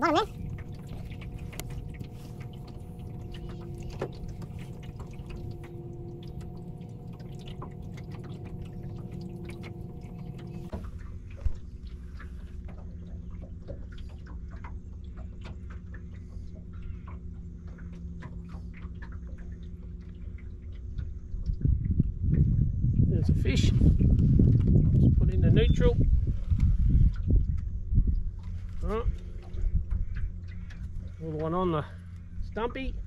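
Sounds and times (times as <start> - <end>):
boat motor humming: 0.0 - 33.0
water lapping against hull: 0.0 - 33.0.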